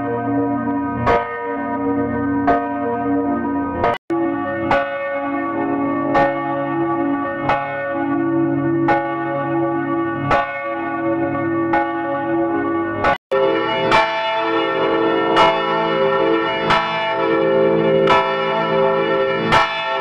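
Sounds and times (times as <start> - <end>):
church bell ringing: 0.0 - 20.0.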